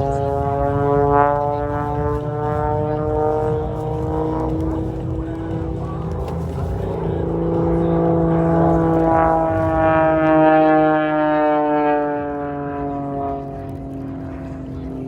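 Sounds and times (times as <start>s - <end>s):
propeller airplane passing low: 0.0s - 15.0s.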